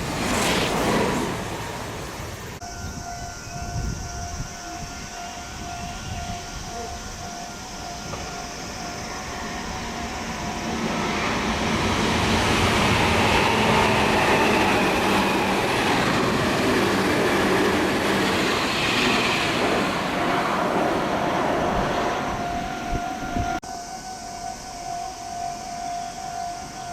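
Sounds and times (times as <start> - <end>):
electric train passing at speed: 0.0 - 26.9.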